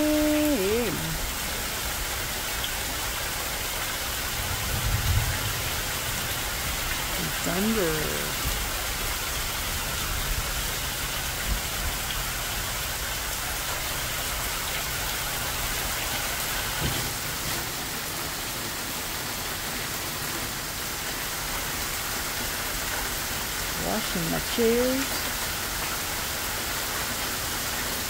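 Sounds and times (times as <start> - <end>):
heavy rain on grass and wood: 0.0 - 28.0.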